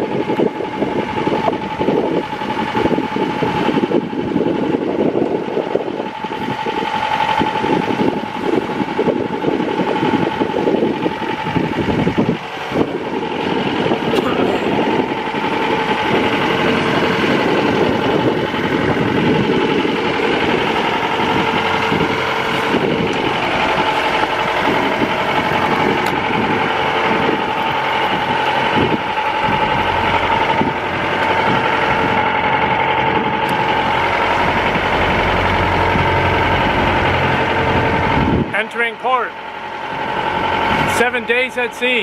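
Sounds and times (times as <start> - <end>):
boat engine humming: 0.0 - 42.0.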